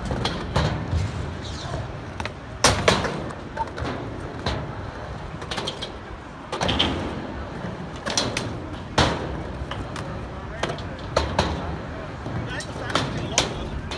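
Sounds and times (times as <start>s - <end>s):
skateboard clacks: 0.0s - 13.9s
skateboard wheels rolling: 0.0s - 13.9s.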